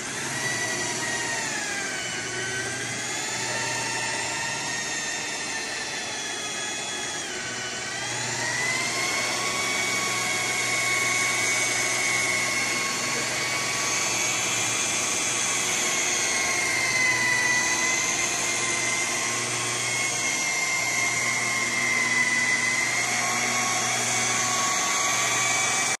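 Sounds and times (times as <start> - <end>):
rotary polisher motor whine: 0.0 - 26.0.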